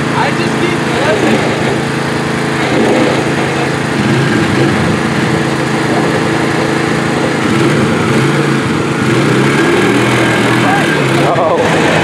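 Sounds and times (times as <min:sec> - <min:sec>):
four-wheeler engine: 0:00.0 - 0:12.0
riding lawn mower engine: 0:00.0 - 0:12.0.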